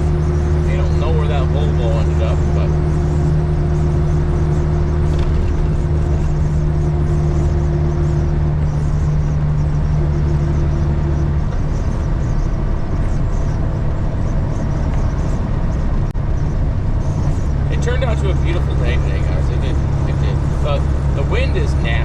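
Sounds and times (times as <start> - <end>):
truck engine hum: 0.0 - 22.0
tyres rumbling on road: 0.0 - 22.0
wind noise: 0.0 - 22.0.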